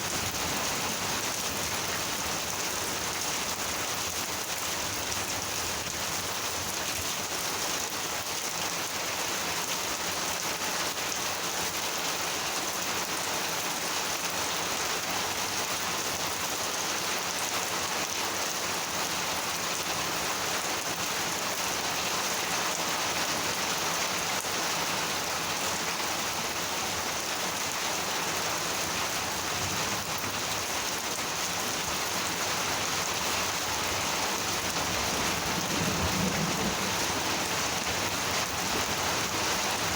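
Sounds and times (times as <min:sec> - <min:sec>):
heavy rain pattering: 0:00.0 - 0:14.3, 0:14.9 - 0:39.9.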